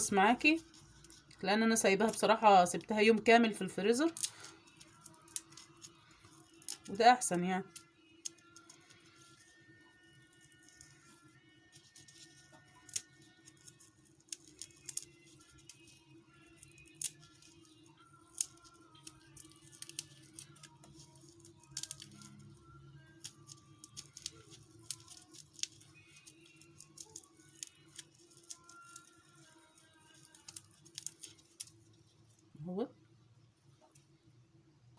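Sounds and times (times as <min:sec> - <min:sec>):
soft background music: 0:00.0 - 0:34.9.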